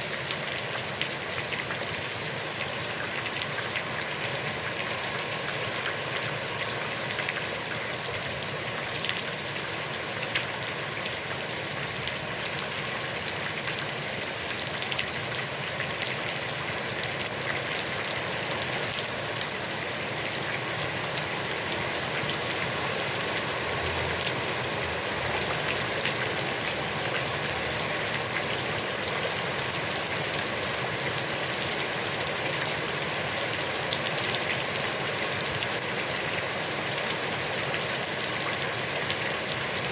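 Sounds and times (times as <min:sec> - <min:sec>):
heavy rain on a pond: 0:00.0 - 0:39.9.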